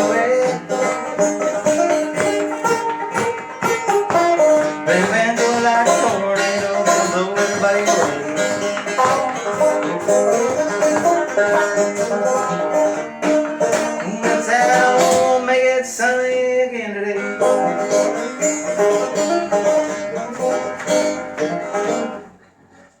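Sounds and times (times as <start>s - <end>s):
fast banjo picking: 0.0s - 23.0s.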